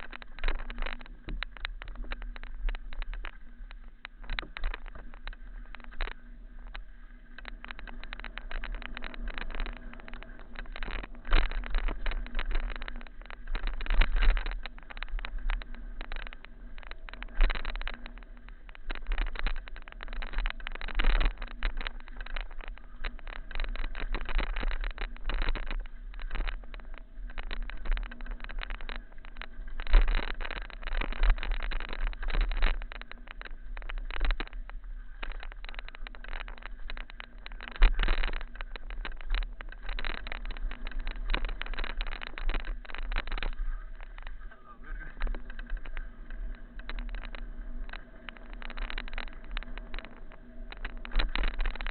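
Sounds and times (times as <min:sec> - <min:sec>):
bike rattling over bumps: 0:00.0 - 0:51.9.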